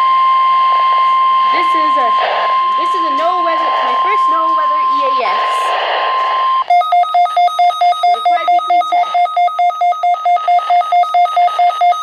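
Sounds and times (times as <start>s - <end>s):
rapid electronic beeping: 0.0s - 12.0s.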